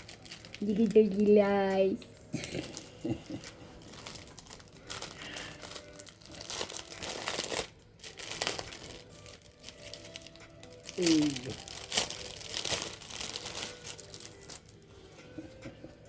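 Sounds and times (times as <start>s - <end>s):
plastic packaging crinkling: 0.0s - 15.1s.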